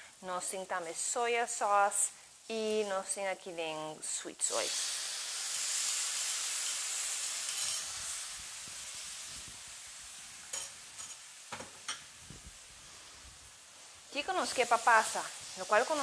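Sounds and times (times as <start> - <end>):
sauce sizzling in hot wok: 0.0 - 16.0.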